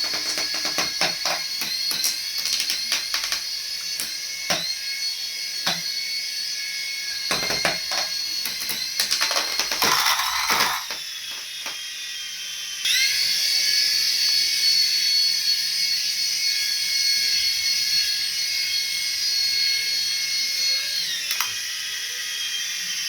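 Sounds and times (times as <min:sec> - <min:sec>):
small electric motor whining: 0:00.0 - 0:23.0.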